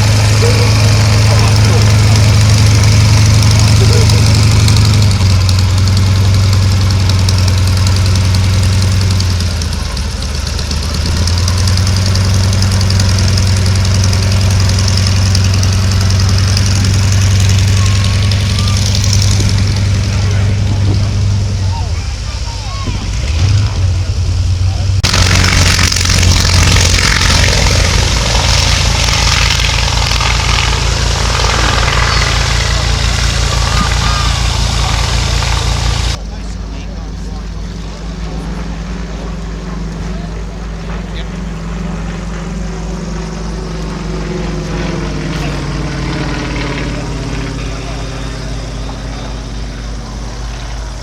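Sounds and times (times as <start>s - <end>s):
radial aircraft engine droning: 0.0s - 51.0s.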